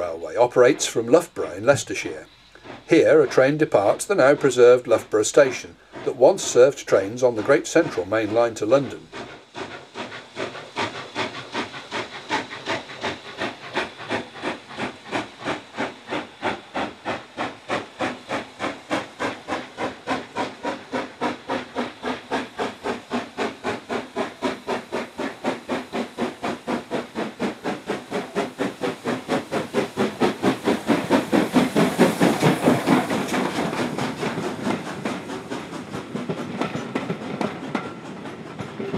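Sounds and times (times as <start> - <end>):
steam hissing from drain cocks: 0.0 - 38.9
steam locomotive exhaust beats: 0.0 - 38.9.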